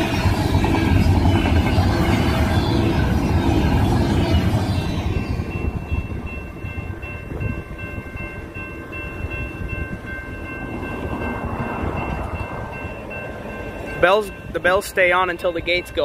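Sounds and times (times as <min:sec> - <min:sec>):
freight train rumbling: 0:00.0 - 0:16.0
railroad crossing bells ringing: 0:00.0 - 0:16.0.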